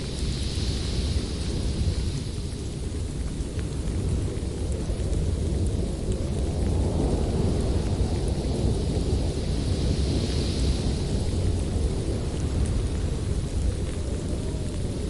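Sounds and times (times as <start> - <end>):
deep storm rumble: 0.0 - 15.0
storm hiss: 0.0 - 15.0.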